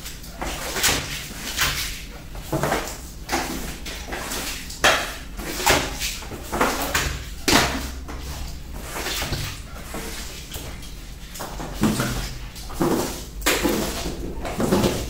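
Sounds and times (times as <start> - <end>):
squeegee scraping wet tiled floor: 0.0 - 15.0.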